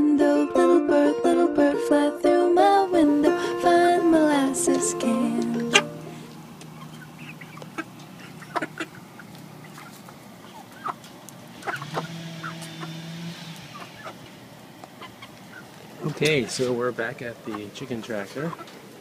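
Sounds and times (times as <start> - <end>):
young chickens clucking: 3.2 - 19.0.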